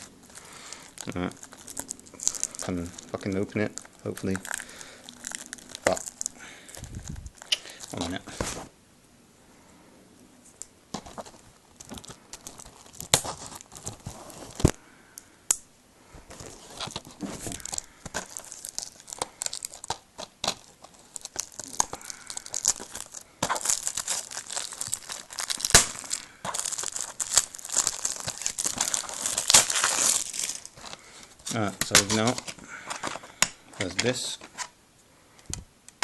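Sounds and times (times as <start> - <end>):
plastic wrap crinkling and tearing: 0.0 - 8.7, 11.0 - 14.8, 16.3 - 34.7.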